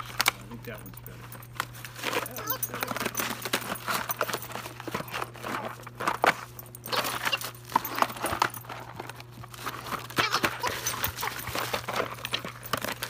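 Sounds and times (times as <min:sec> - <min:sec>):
dog chewing and tearing cardboard: 0:00.0 - 0:13.0.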